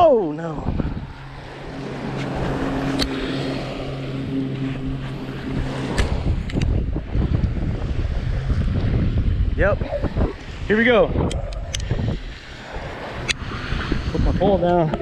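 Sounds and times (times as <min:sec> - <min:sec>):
low engine drone: 0:00.0 - 0:15.0
wind buffeting microphone: 0:00.0 - 0:15.0.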